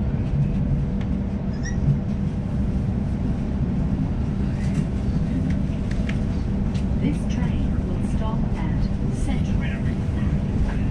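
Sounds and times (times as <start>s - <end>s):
electric train rumble: 0.0s - 10.9s.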